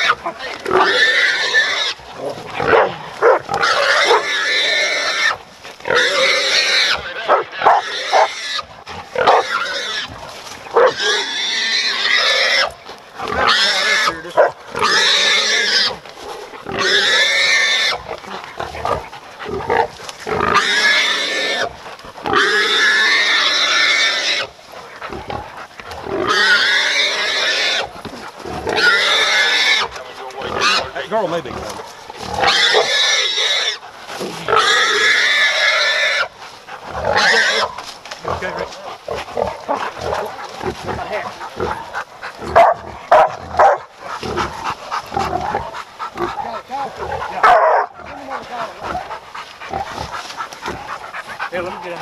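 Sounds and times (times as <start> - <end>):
wild hog squealing: 0.0 - 52.0.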